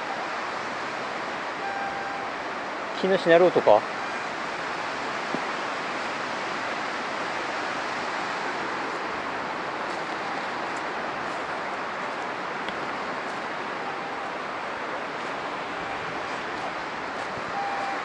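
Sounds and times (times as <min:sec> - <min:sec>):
strong wind through pine trees: 0:00.0 - 0:18.0.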